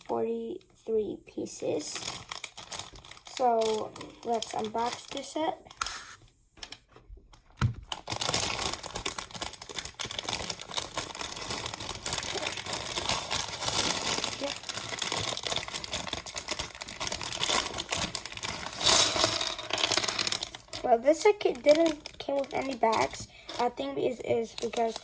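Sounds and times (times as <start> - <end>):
packaging crinkling and tearing: 1.9 - 6.2, 7.3 - 25.0
plastic pieces clicking: 2.0 - 5.8, 6.6 - 25.0.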